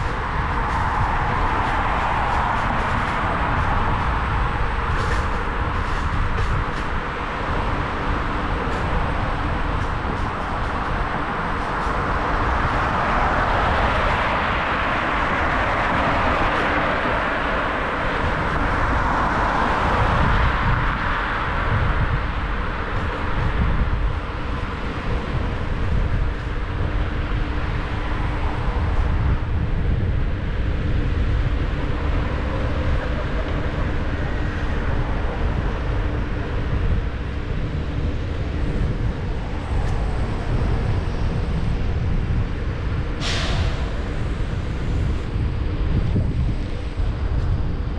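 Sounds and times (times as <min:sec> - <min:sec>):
city traffic noise: 0:00.0 - 0:47.9
low wind buffeting: 0:00.0 - 0:47.9
wind rushing over microphone: 0:00.0 - 0:47.9.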